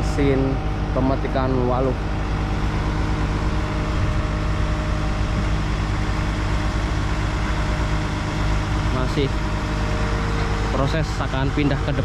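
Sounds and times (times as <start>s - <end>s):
harvester engine low hum: 0.0s - 12.0s.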